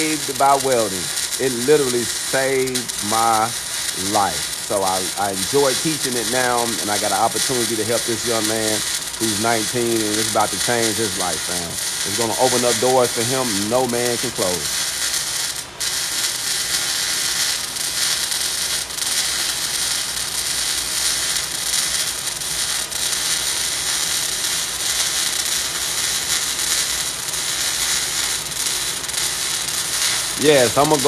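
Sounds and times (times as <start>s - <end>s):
welding arc crackling: 0.0s - 31.0s
welding pops: 0.0s - 31.0s.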